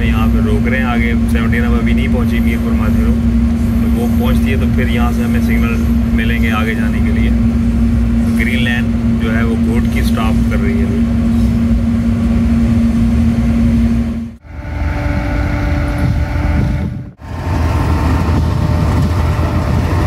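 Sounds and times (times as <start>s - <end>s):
locomotive engine drone: 0.0s - 20.0s
train rumbling past: 0.0s - 20.0s.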